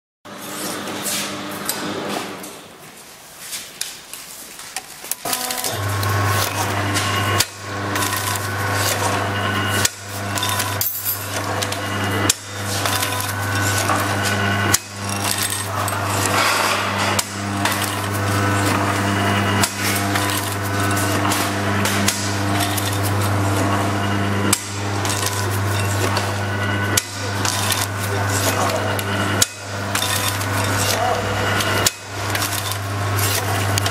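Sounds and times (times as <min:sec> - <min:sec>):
machine motor hum: 0:05.2 - 0:33.9.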